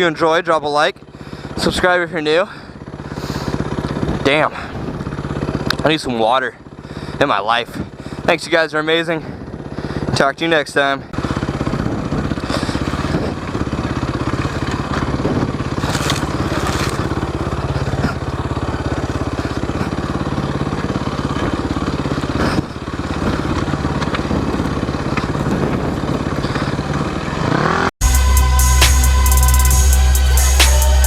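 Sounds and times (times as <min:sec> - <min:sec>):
dirt bike engine running and revving: 0:00.0 - 0:31.0.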